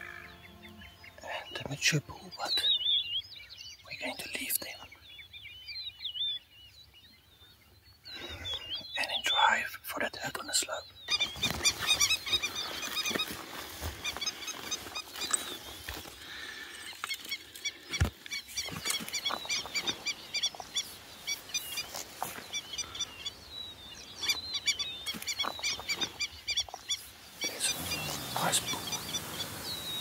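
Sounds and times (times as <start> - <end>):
birds calling high notes: 0.0 - 6.5, 7.6 - 30.0.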